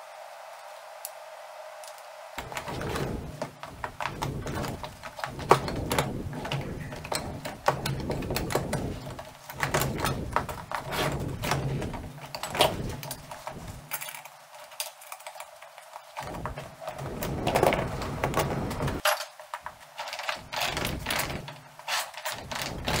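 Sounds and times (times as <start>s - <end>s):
metal clanks and rattles: 2.4s - 23.0s.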